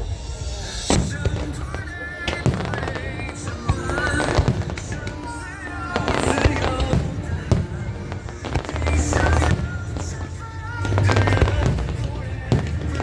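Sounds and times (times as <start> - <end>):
fireworks bursting with bangs: 0.0 - 13.0
fireworks crackling: 0.0 - 13.0
music playing: 0.0 - 13.0.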